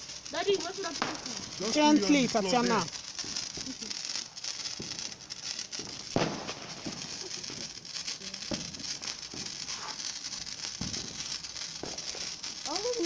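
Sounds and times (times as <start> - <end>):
sparkler fizzing and crackling: 0.0 - 13.0.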